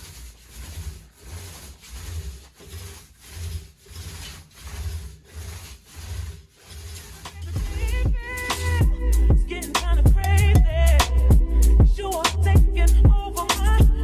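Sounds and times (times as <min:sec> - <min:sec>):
paint roller rubbing on wall: 0:00.0 - 0:11.3.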